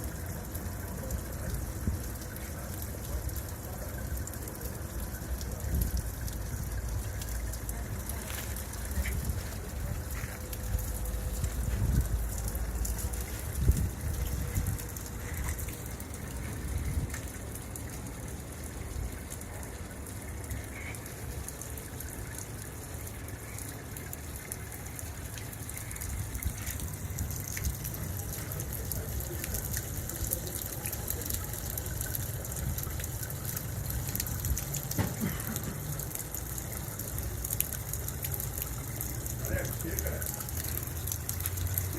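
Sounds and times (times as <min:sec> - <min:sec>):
water and air gushing from well: 0:00.0 - 0:41.9.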